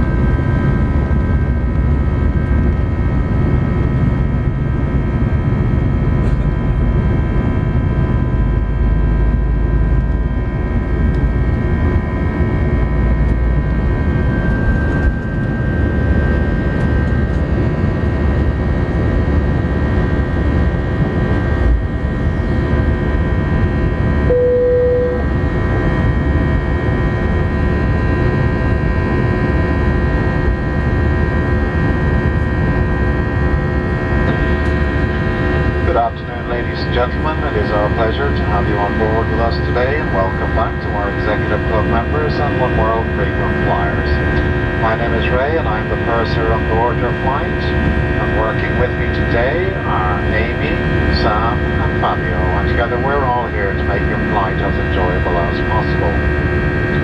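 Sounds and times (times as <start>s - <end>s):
jet engines whine and rumble: 0.0s - 57.0s.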